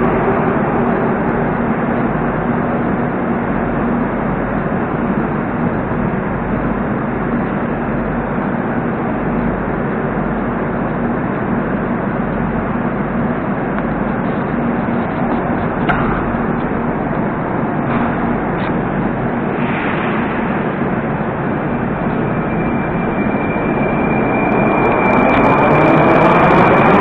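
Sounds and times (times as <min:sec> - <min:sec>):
train hum and rumble: 0:00.0 - 0:27.0.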